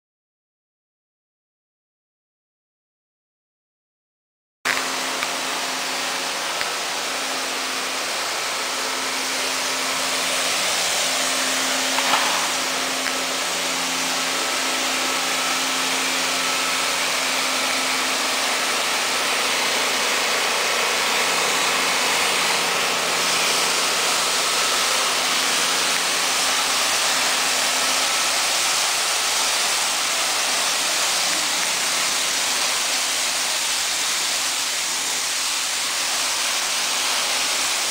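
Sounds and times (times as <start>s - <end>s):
floor scrubber motor hum: 4.7s - 37.9s
suction hiss: 4.7s - 37.9s.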